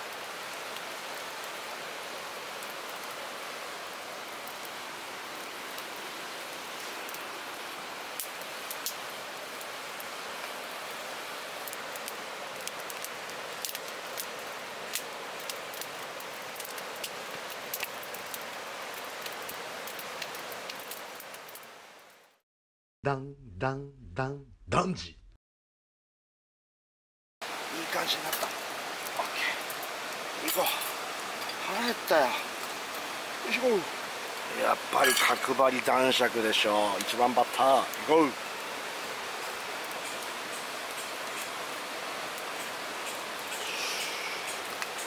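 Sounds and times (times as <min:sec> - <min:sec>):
firewood crackling and popping: 0:00.0 - 0:22.3, 0:27.4 - 0:45.0
steady fire hiss: 0:00.0 - 0:22.4, 0:27.4 - 0:45.0.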